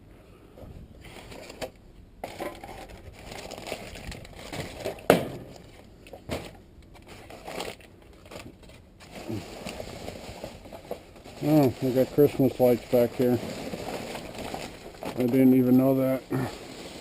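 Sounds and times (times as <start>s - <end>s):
rustling and handling noise: 0.3s - 17.0s.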